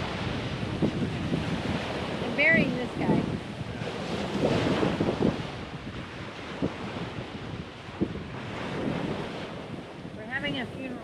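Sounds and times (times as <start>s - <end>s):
small waves washing on beach: 0.0s - 11.0s
wind buffeting microphone: 0.0s - 11.0s.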